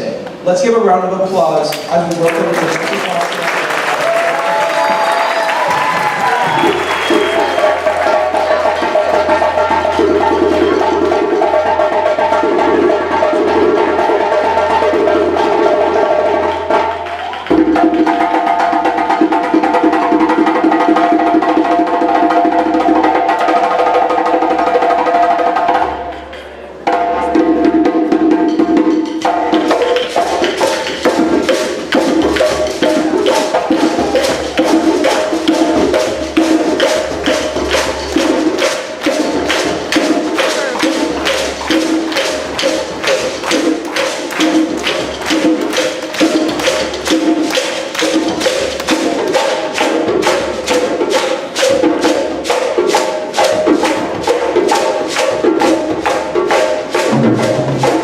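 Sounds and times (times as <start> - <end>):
fast hand-drum strokes: 0.6 - 58.0
african drumming music: 1.4 - 58.0
wood-block clack: 4.8 - 58.0.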